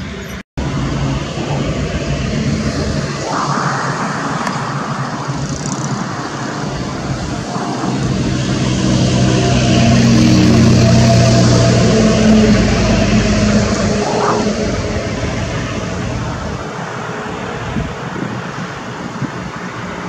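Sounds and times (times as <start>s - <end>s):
locomotive engine humming: 0.0s - 20.0s.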